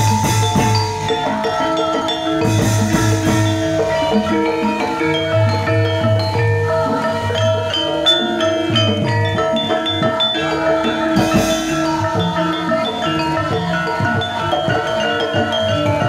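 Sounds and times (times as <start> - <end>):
gamelan ensemble playing: 0.0 - 16.0.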